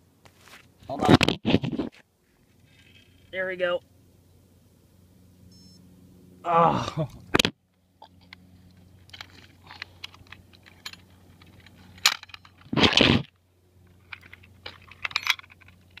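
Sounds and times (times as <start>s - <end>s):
faint low hum: 2.0s - 16.0s.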